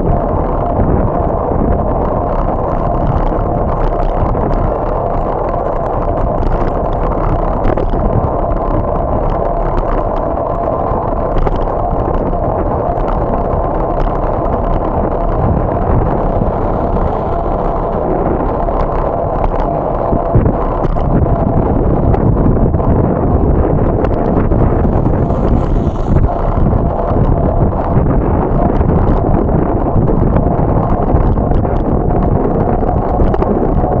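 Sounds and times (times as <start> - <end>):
road noise: 0.0 - 34.0
wind rumble on microphone: 0.0 - 34.0
bike rattling clicks: 2.2 - 29.5.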